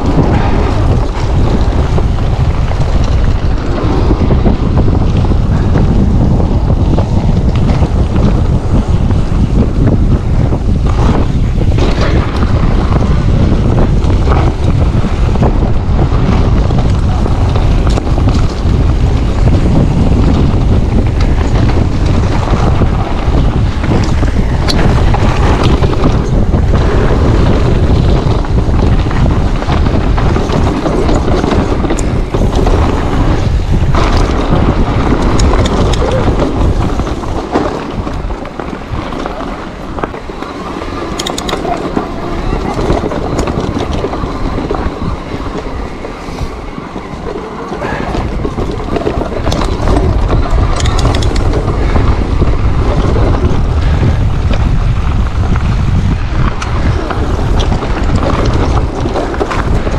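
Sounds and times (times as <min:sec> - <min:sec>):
bike knocks and rattles: 0:00.0 - 0:59.9
tyres rumbling on dirt trail: 0:00.0 - 0:59.9
wind buffeting microphone: 0:00.0 - 0:59.9.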